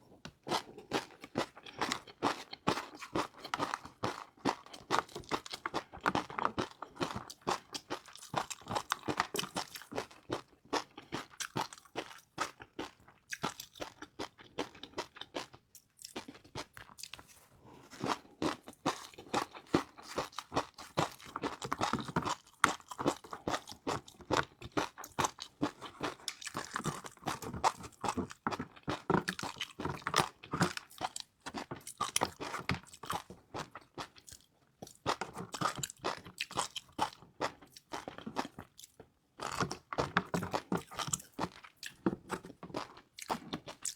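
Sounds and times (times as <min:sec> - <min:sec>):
chewing crispy noodles: 0:00.2 - 0:43.9.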